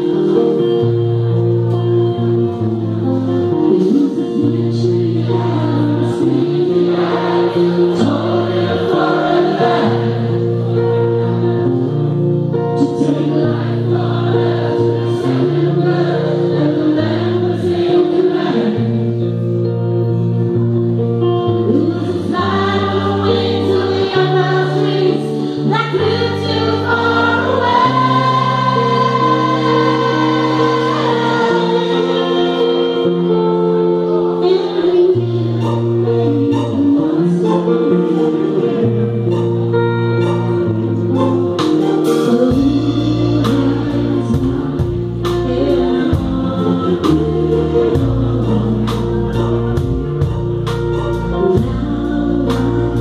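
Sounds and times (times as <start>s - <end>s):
live rock band playing: 0.0s - 53.0s
woman singing: 3.4s - 10.0s, 12.5s - 19.8s, 21.4s - 53.0s.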